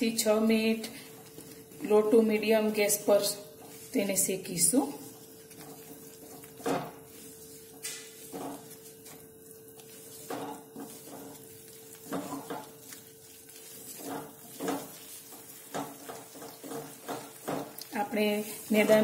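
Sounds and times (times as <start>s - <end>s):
faint sizzle: 0.0s - 19.0s
wooden spatula scraping a pan: 0.7s - 19.0s.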